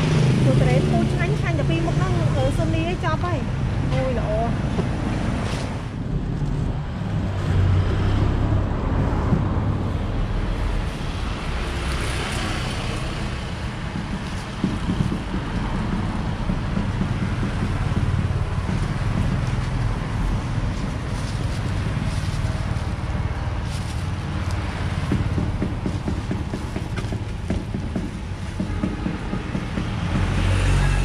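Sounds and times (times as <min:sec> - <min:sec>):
vehicle passing by: 0:00.0 - 0:27.4, 0:28.3 - 0:31.0
road traffic rumble: 0:00.0 - 0:31.0.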